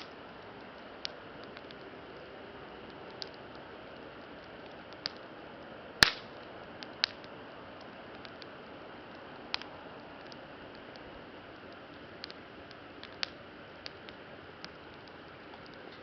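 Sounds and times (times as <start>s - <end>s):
campfire crackling: 0.0s - 16.0s
sharp fire pops: 0.0s - 16.0s.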